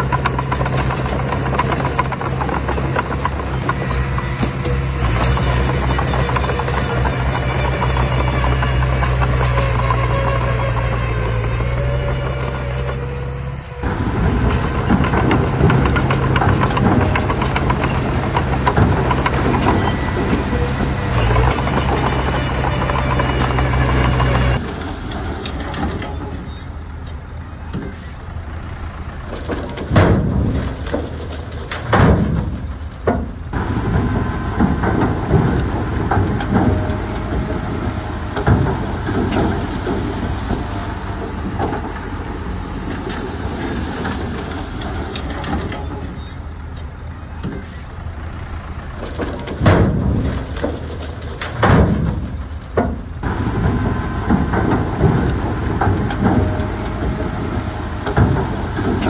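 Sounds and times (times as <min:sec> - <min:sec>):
metallic clanks and bangs: 0:00.0 - 0:28.4, 0:29.2 - 0:48.3, 0:48.9 - 0:59.0
diesel engine running: 0:00.0 - 0:59.0.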